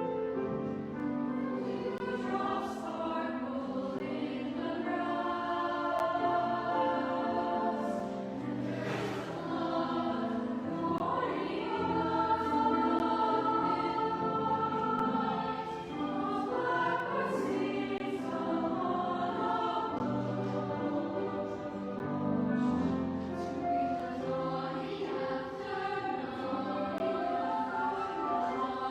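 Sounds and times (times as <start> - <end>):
children's choir singing: 0.0 - 28.9.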